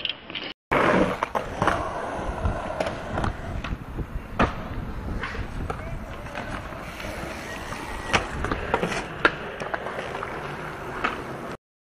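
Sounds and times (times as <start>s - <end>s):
skateboards clacking on concrete: 0.0s - 11.6s.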